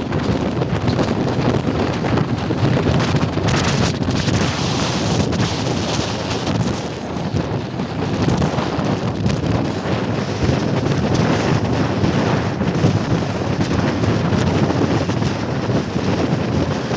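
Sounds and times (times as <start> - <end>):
train rumbling: 0.0 - 16.9
wind buffeting microphone: 0.0 - 16.9.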